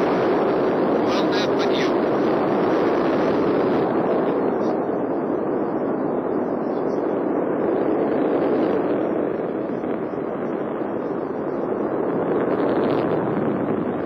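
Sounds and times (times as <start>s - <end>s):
rocket engines rumbling: 0.0s - 14.0s.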